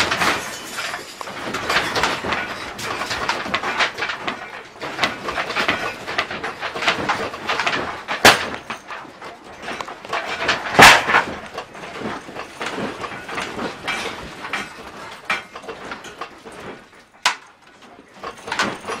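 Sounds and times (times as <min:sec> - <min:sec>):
household contents rattling and creaking: 0:00.0 - 0:19.0.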